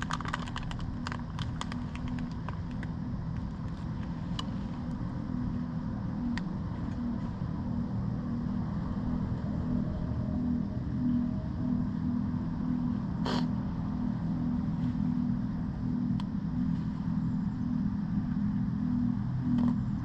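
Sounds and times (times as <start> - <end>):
tyre and road rumble: 0.0 - 20.0
wind buffeting microphone: 0.0 - 20.0.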